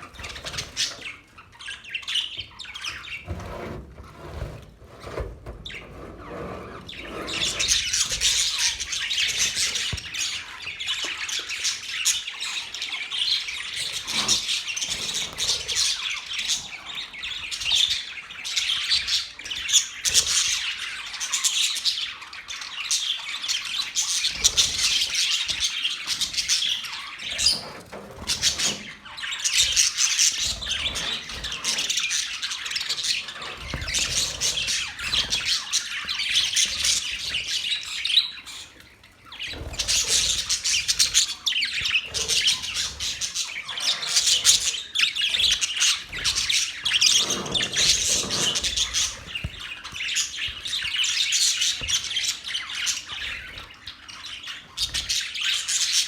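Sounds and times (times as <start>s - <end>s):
parrots chirping and squawking: 0.0s - 3.4s, 5.6s - 56.0s.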